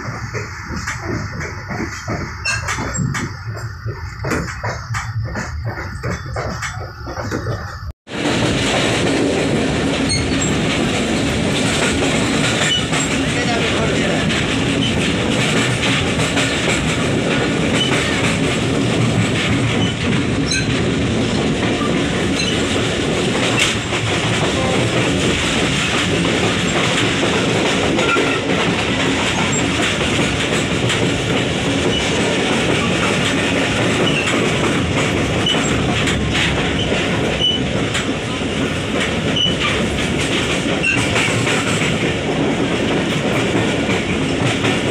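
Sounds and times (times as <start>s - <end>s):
train wheels on rails: 0.0s - 44.9s.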